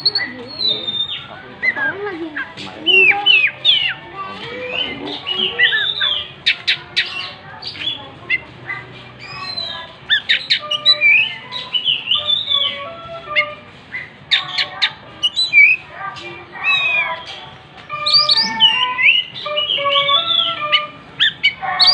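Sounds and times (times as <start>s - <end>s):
bird singing whistled notes: 0.0s - 4.0s, 4.6s - 8.4s, 9.2s - 15.8s, 16.6s - 21.9s.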